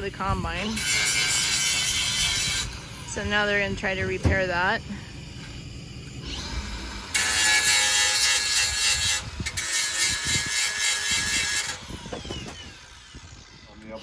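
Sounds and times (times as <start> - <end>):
grinder grinding steel: 0.0 - 14.0
power grinder whine: 0.0 - 14.0.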